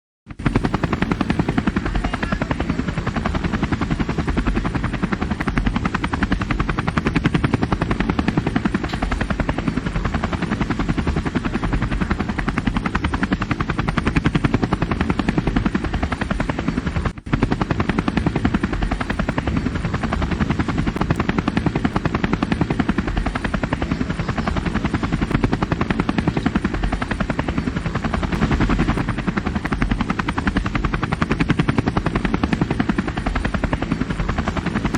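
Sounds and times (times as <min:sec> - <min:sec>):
helicopter rotor chopping: 0:00.3 - 0:34.9.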